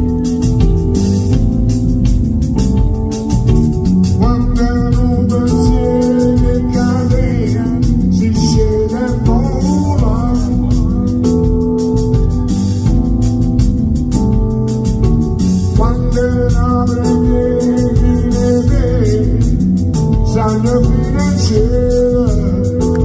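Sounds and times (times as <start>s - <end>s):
live band playing: 0.0s - 23.0s
wavering lead melody: 0.0s - 23.0s.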